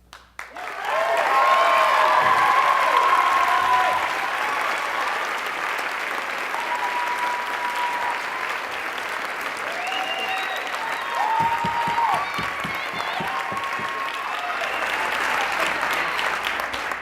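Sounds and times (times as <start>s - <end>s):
audience applauding: 0.1s - 17.0s
cheering: 0.4s - 17.0s.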